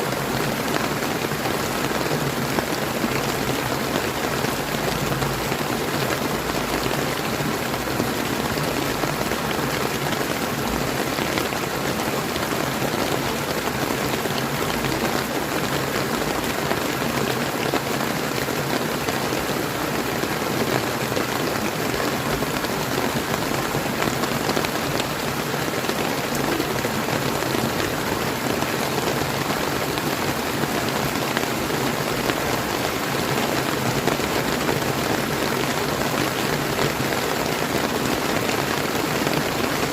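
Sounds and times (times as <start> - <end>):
river water flowing: 0.0 - 39.9
steady rain: 0.0 - 39.9.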